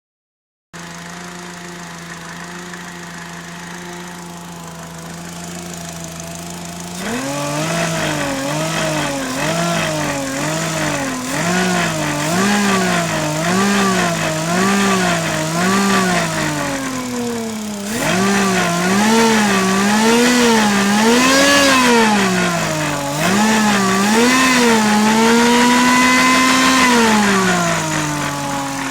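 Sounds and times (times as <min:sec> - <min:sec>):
engine revving: 0:00.8 - 0:28.9
supercharged car engine idling: 0:00.8 - 0:28.9
supercharger abnormal noise: 0:00.8 - 0:28.9.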